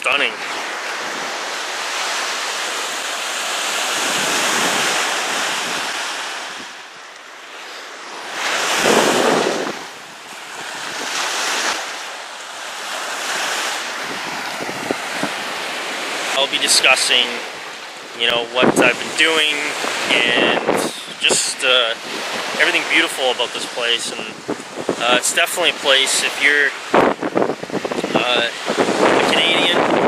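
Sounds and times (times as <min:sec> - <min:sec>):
lake waves washing on beach: 0:00.0 - 0:30.0
wind: 0:00.0 - 0:30.0.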